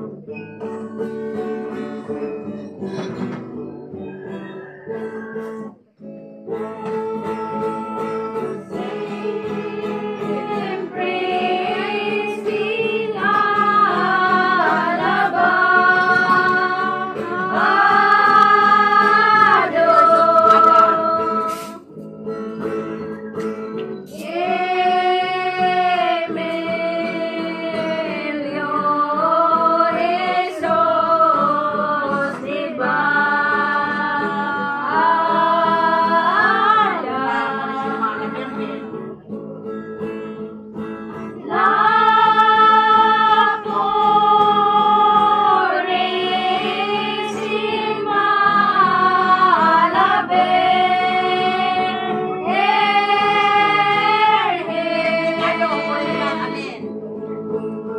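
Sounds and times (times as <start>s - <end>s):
strummed acoustic guitars: 0.0s - 57.9s
group of women singing: 6.9s - 22.0s, 24.1s - 39.1s, 41.2s - 57.9s.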